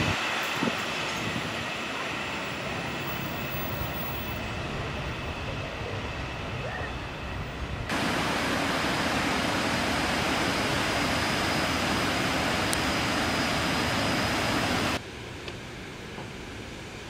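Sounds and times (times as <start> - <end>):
faint high whine: 0.0 - 17.0
steady rushing noise: 0.0 - 17.0.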